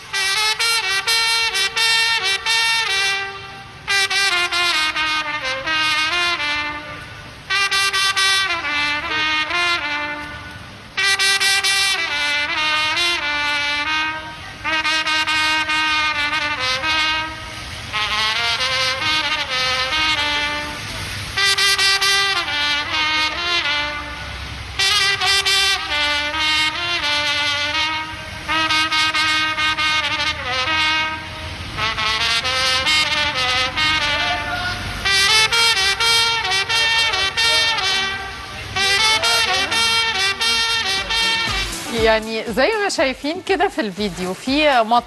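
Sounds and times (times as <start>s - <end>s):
solo wind instrument melody: 0.0s - 43.4s.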